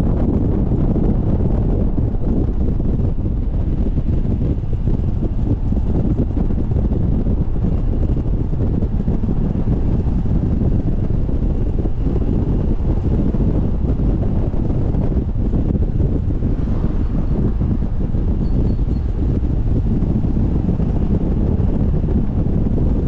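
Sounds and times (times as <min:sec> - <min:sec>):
car engine rumble: 0:00.0 - 0:23.0
wind buffeting microphone: 0:00.0 - 0:23.0.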